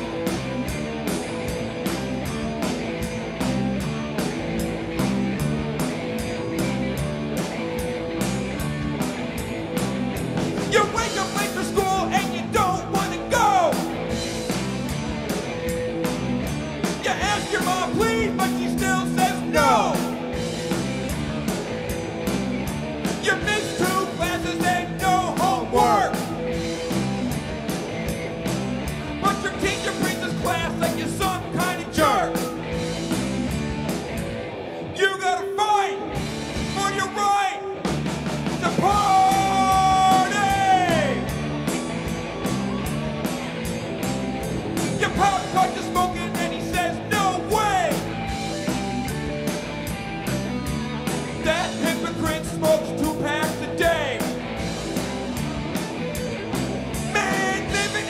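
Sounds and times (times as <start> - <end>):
drum kit beat: 0.0 - 34.6, 37.9 - 58.0
bass guitar: 0.0 - 58.0
electric guitars: 0.0 - 58.0
sliding lead guitar lines: 0.0 - 58.0.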